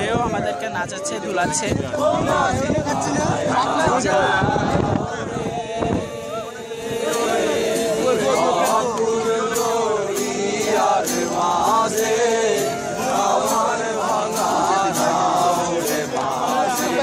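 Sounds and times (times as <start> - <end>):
group singing: 0.0 - 17.0
man singing lead: 0.0 - 17.0
strummed acoustic guitar: 1.8 - 17.0.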